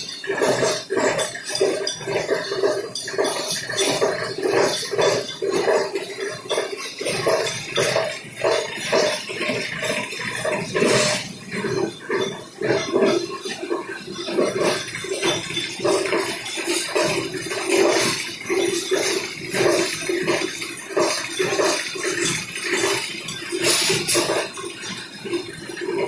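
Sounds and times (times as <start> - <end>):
recycling machine clattering: 0.0 - 26.0.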